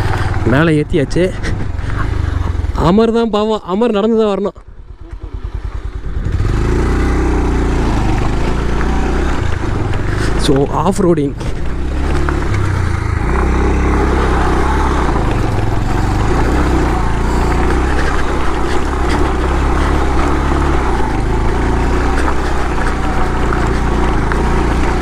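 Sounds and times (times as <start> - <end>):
motorcycle engine under load: 0.0 - 25.0.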